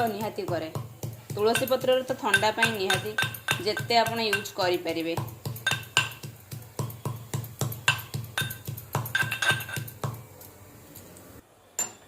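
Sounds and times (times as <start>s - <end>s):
pestle pounding in a mortar: 0.0s - 10.2s.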